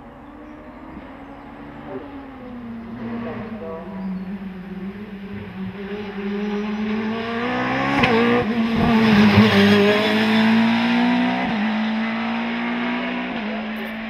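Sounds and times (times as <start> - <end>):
race car passing at full throttle: 0.0 - 14.0.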